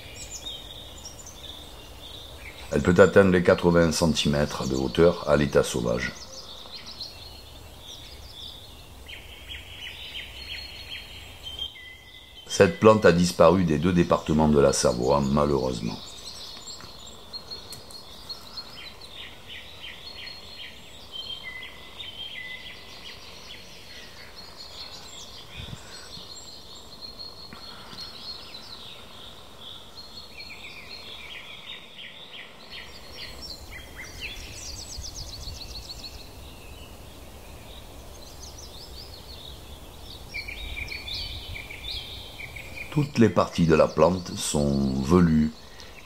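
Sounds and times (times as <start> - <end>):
faint outdoor hiss: 0.0 - 46.0
small birds singing trills: 0.0 - 46.0.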